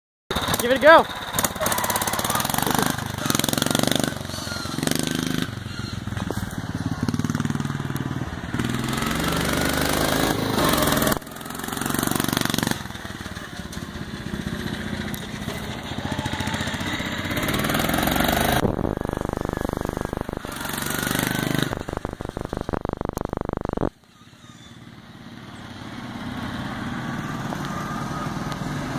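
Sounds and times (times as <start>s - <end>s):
lawn mower engine revving: 0.3s - 24.2s, 24.8s - 28.9s.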